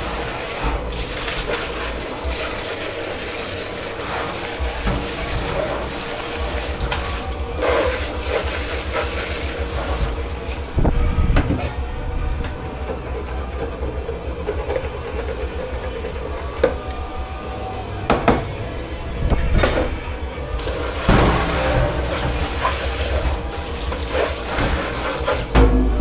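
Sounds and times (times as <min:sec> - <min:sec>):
dishwashing machine rumble: 0:00.0 - 0:26.0.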